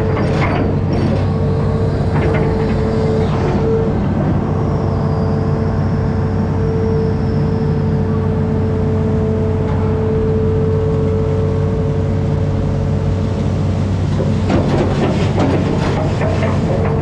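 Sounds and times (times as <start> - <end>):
diesel engine running with whine: 0.0 - 17.0.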